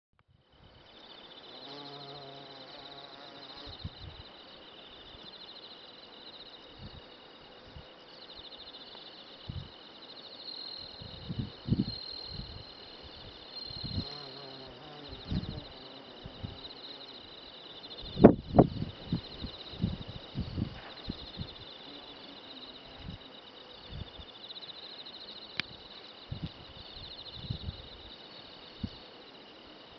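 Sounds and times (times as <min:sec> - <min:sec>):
insects trilling: 0:00.5 - 0:29.9.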